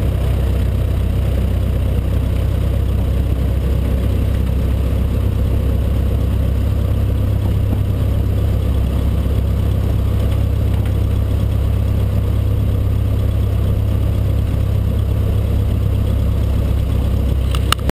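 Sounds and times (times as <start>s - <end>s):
light aircraft engine and propeller: 0.0s - 17.9s.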